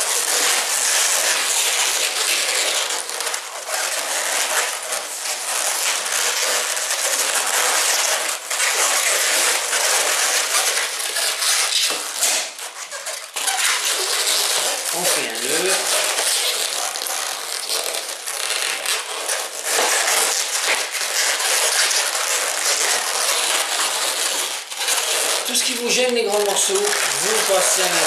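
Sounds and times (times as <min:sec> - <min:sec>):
balloons rubbing and squeaking: 0:00.0 - 0:28.0.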